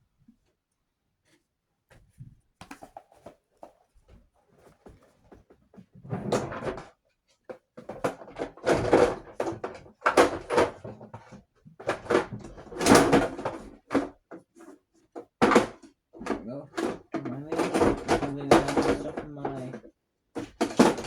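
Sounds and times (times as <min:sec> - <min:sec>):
objects rustling and clattering: 0:01.2 - 0:21.0.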